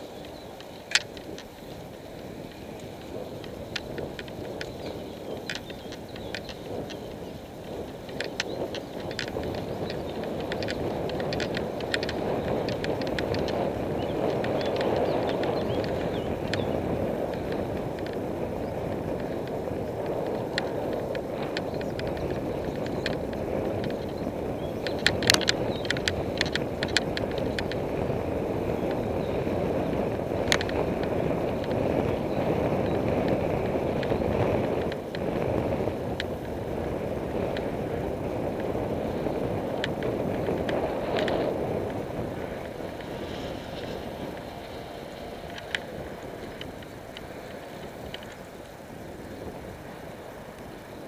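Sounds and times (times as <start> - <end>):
bicycle clicks: 0.0 - 51.0
road rumble: 0.0 - 51.0
wind on microphone: 0.0 - 51.0.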